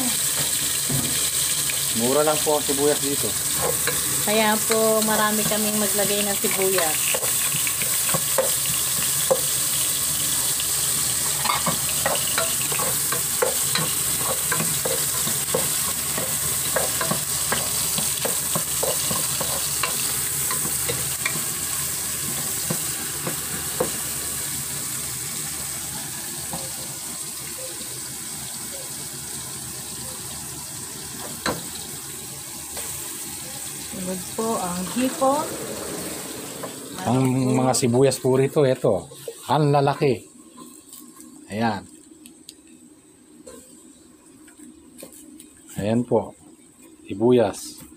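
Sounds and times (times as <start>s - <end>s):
vegetables sizzling in hot oil: 0.0s - 47.8s.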